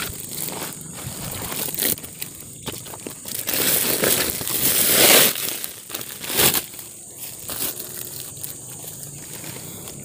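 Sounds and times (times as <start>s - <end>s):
rustling and crumpling: 0.0s - 10.0s.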